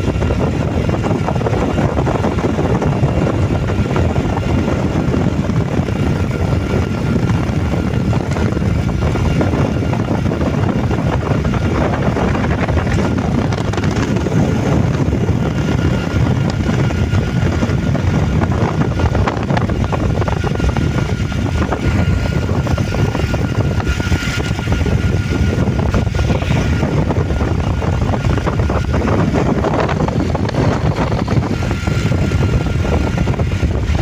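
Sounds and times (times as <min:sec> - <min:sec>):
vehicle motor rumble: 0:00.0 - 0:34.0
faint whine: 0:00.2 - 0:34.0.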